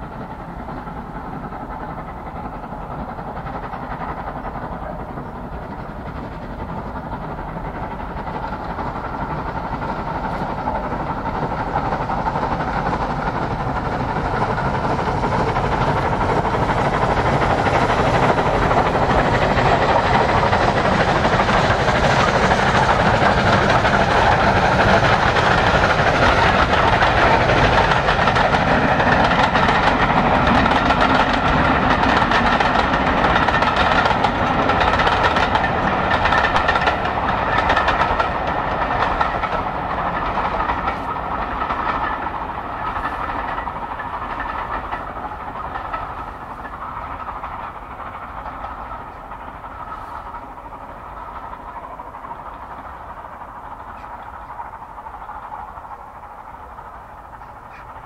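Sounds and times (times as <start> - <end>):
steam locomotive exhaust: 0.0 - 58.0
train wheels clattering on rails: 0.0 - 58.0.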